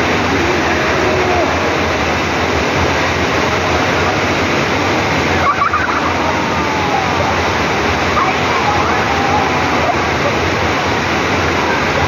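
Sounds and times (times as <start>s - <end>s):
rushing pumped water: 0.0s - 12.0s.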